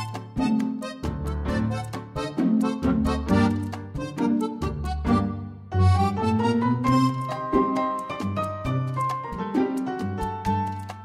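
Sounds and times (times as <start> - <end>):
background music with beat: 0.0 - 5.3, 5.9 - 11.0.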